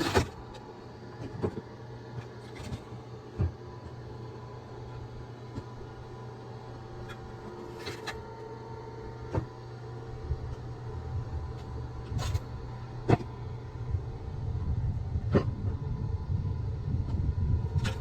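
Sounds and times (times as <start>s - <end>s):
motor running at low pitch: 0.0s - 18.0s.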